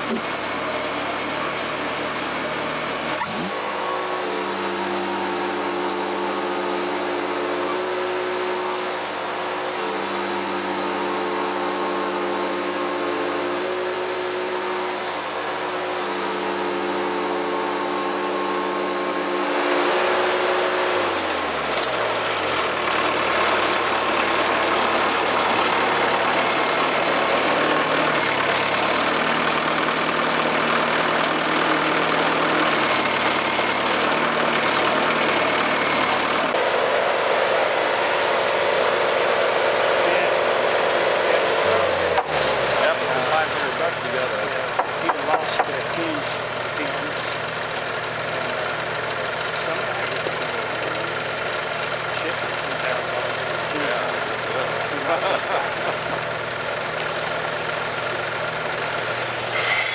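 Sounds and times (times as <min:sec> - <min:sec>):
band sawmill sawing log: 0:00.0 - 0:59.9
sawmill engine running: 0:00.0 - 0:59.9.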